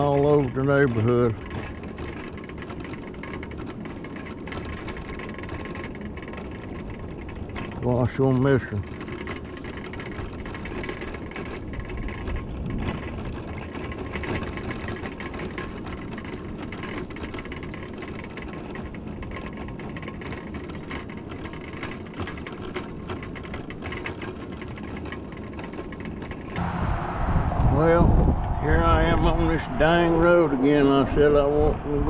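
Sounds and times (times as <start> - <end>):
small clicks and rattles: 0.0 - 26.6
scooter motor whir: 0.0 - 26.8
tyre noise on asphalt: 0.0 - 28.7.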